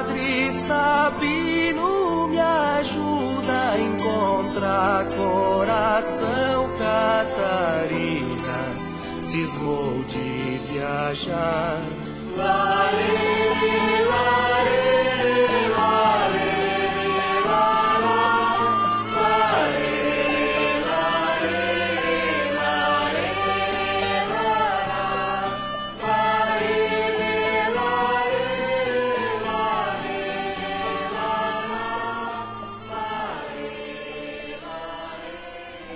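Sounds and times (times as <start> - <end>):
voices singing chant-like song: 0.0 - 35.9.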